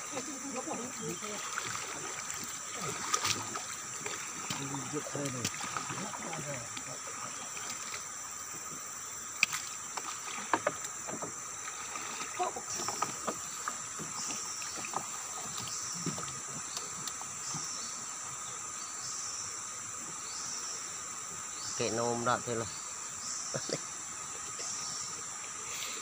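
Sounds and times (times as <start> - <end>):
high insect drone: 0.0 - 26.0.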